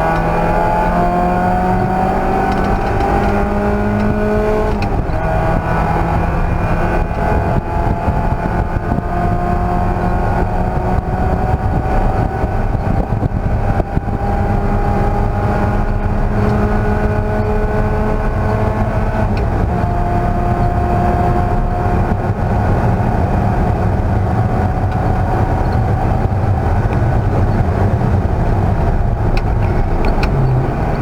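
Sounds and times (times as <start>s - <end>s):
race car engine running hard: 0.0s - 31.0s
road and wind noise: 0.0s - 31.0s.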